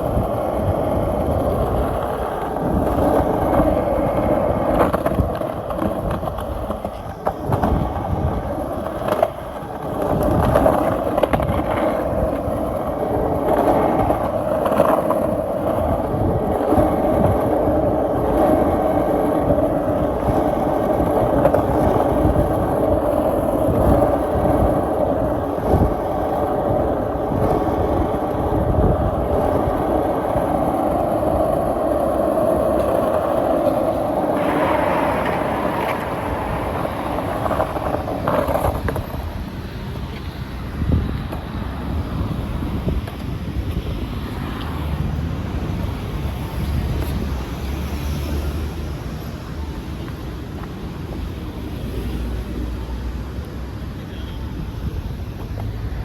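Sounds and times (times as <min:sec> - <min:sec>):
skateboard wheels rolling on pavement: 0:00.0 - 0:56.0.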